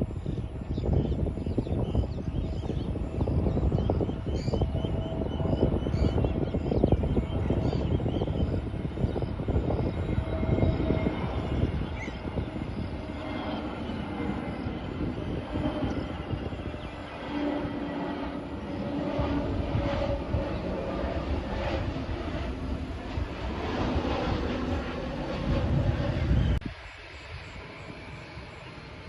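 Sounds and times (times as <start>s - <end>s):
jet airliner engines: 0.0s - 29.0s.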